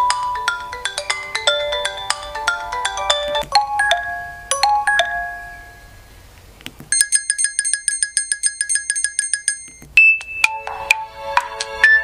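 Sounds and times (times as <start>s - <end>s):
melodic chime ringtone: 0.0s - 6.1s, 6.9s - 10.8s.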